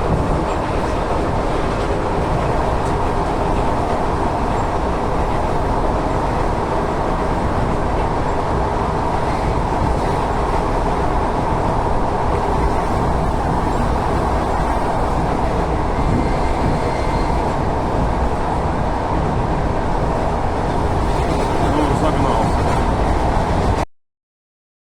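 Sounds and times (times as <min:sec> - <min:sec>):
train wheels rumbling on rails: 0:00.0 - 0:23.8.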